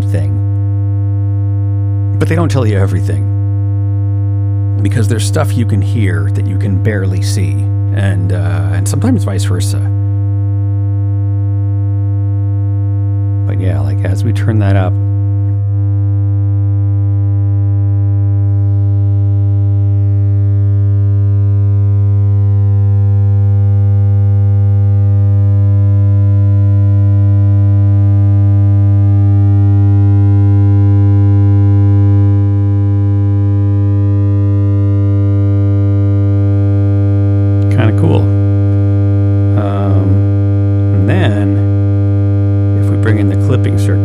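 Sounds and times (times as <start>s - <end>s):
distorted test tone: 0.0s - 44.0s.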